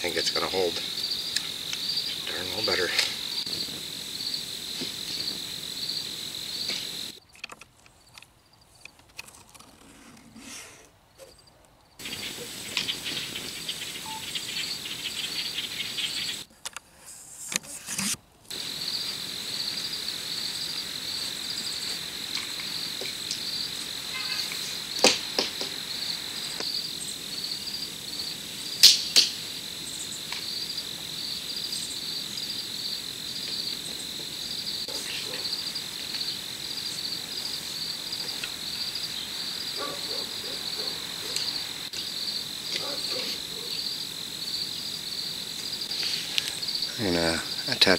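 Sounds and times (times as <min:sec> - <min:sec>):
insects chirping trill: 0:00.0 - 0:09.0, 0:11.3 - 0:16.5, 0:18.5 - 0:47.9.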